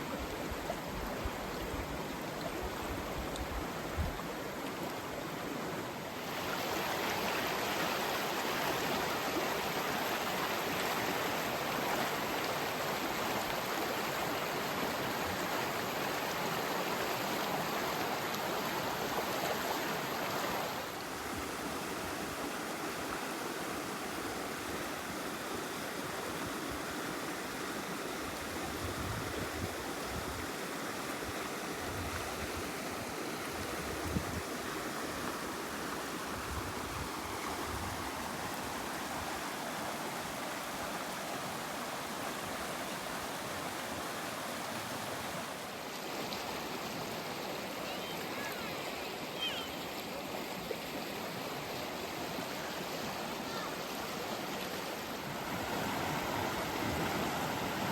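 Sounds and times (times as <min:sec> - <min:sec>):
stream rushing over rocks: 0:00.0 - 0:57.9.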